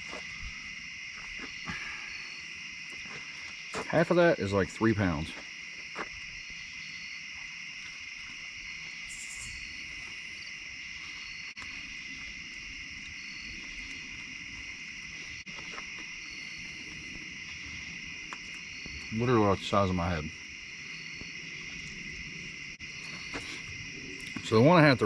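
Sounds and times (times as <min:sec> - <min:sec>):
crickets trilling: 0:00.0 - 0:25.0
high insect chirps: 0:00.0 - 0:25.0.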